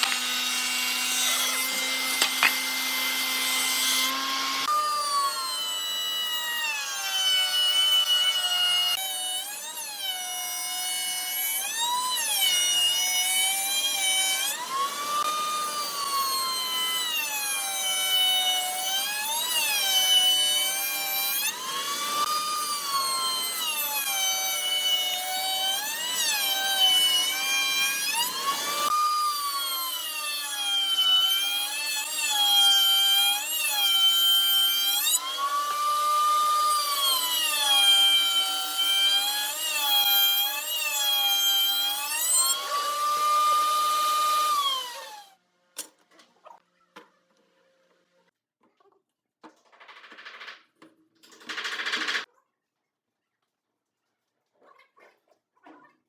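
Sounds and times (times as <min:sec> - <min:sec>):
power tool motor working wood: 0:00.0 - 0:45.4.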